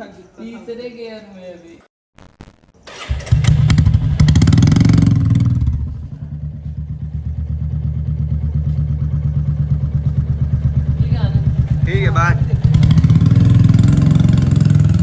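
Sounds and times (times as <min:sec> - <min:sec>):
motorcycle engine revving: 0:02.8 - 0:15.0.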